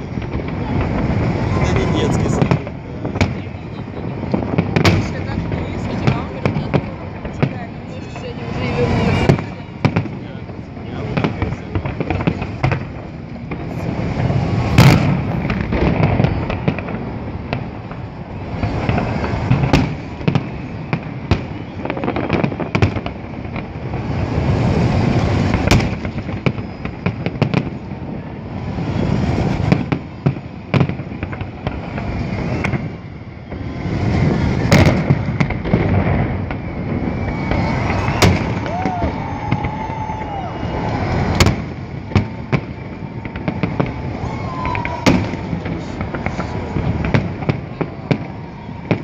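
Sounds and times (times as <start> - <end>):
fireworks bangs: 0.0 - 49.0
fireworks crackling: 0.0 - 49.0.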